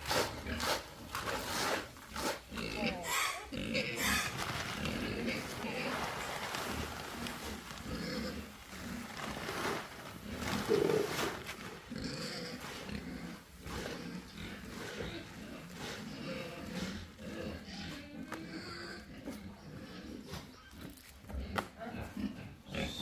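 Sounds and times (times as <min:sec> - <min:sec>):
pigs grunting: 0:00.0 - 0:23.0.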